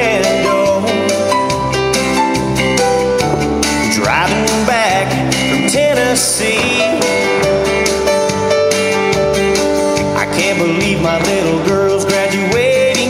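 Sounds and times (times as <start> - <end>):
guitar: 0.0 - 13.0
person singing country song: 0.0 - 13.0.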